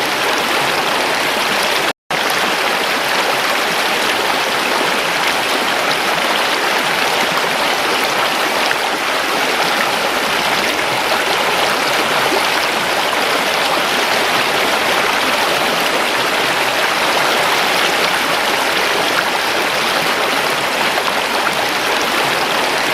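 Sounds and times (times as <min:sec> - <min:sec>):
stream rushing over rocks: 0:00.0 - 0:22.9.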